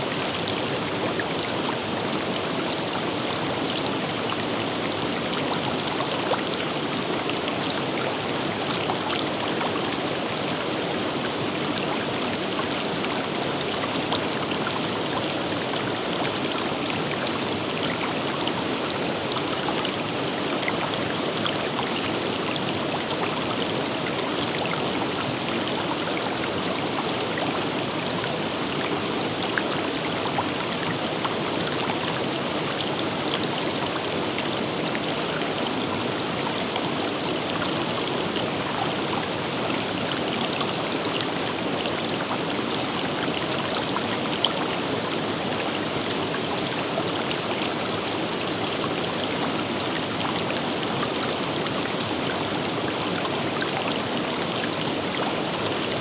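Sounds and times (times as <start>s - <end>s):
river running over rocks: 0.0s - 56.0s.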